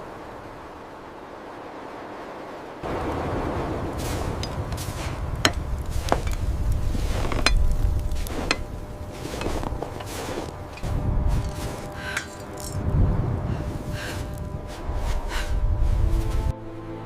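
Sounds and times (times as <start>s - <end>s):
steady low rumble: 0.0s - 16.6s.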